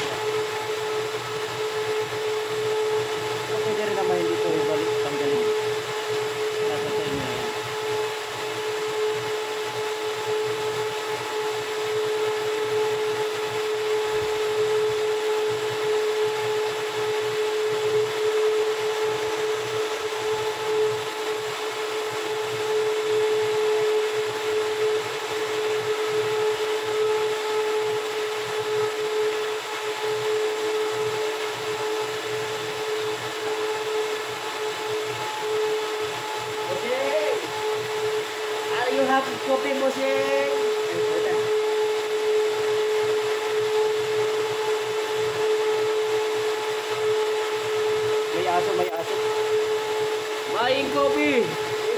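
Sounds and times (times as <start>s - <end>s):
motor humming with whine: 0.0s - 51.9s.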